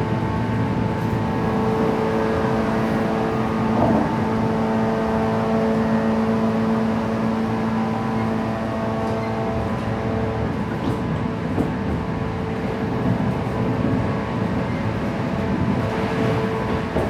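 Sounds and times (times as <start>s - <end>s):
train motor hum: 0.0s - 14.4s
train wheels rumbling on rails: 0.0s - 17.0s.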